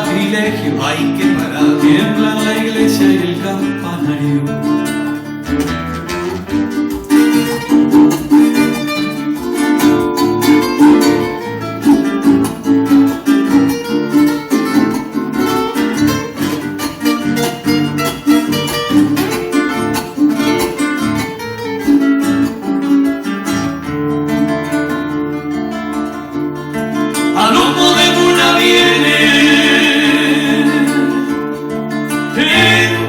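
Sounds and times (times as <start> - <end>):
acoustic guitar plucking and strumming: 0.0 - 33.0.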